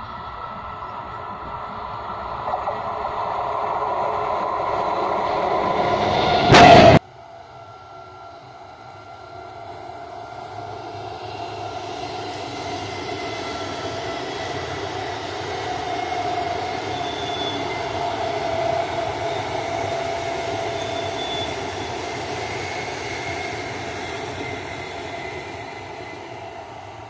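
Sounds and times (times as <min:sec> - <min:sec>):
train rumbling on rails: 0:00.0 - 0:27.0
train whine: 0:00.0 - 0:27.0.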